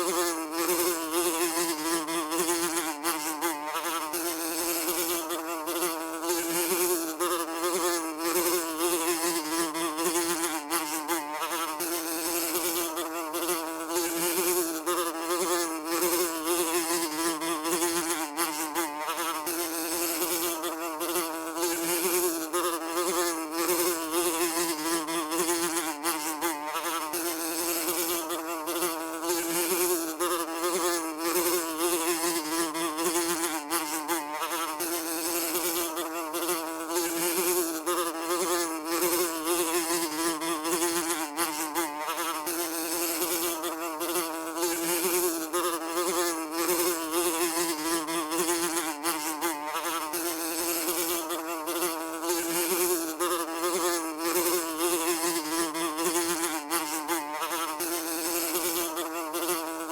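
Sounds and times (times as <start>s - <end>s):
fly buzzing: 0.0s - 59.9s.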